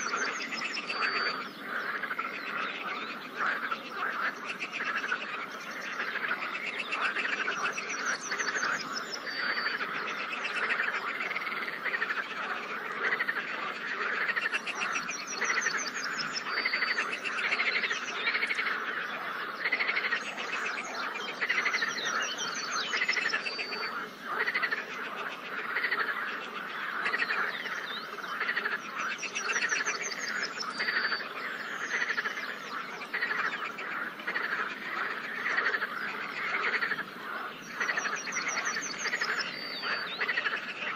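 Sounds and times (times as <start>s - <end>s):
frogs croaking chorus: 0.0s - 40.9s.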